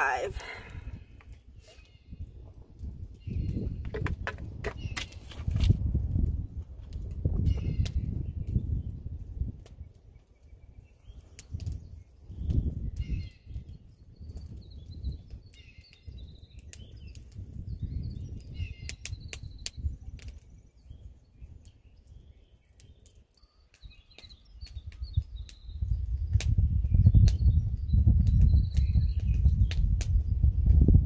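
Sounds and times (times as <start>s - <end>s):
small birds chirping: 0.0s - 5.3s, 7.4s - 9.1s, 9.7s - 30.6s
wind gusting across microphone: 0.0s - 23.1s, 23.9s - 31.0s.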